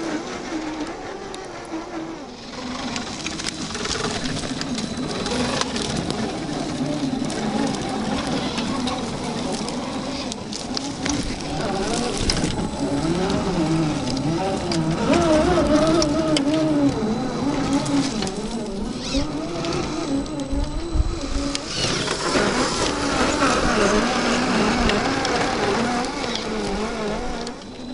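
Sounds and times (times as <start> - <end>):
electric motors whining: 0.0 - 27.9
tyres crackling over dirt and stalks: 2.6 - 27.9.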